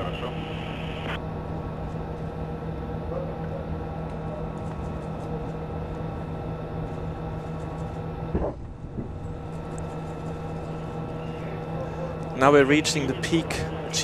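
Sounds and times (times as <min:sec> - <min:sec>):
spacecraft cabin noise and hum: 0:00.0 - 0:14.0.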